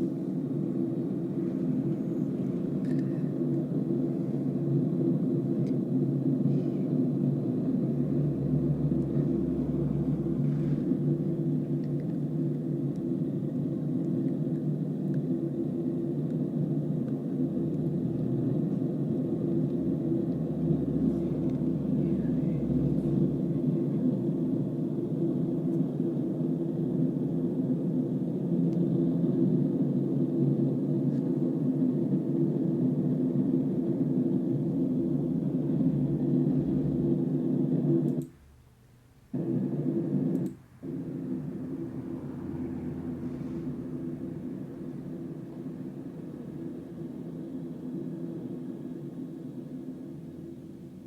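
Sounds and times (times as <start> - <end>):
deep low drone: 0.0 - 38.6, 39.4 - 50.4.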